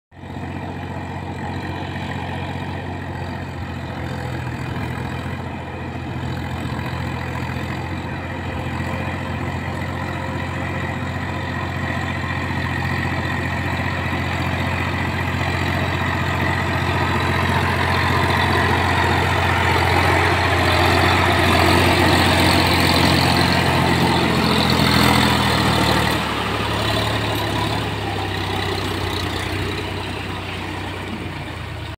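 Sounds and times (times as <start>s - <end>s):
tractor diesel engine: 0.1s - 31.9s.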